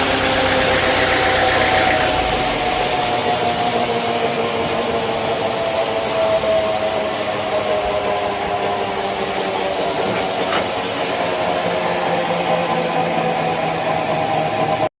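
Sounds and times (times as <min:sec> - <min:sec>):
sawmill motor hum: 0:00.0 - 0:14.9.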